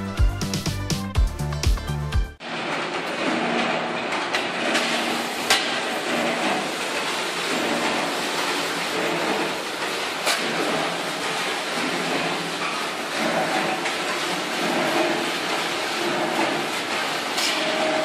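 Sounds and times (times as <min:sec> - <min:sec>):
soil rattling in drum sieve: 0:02.4 - 0:18.0.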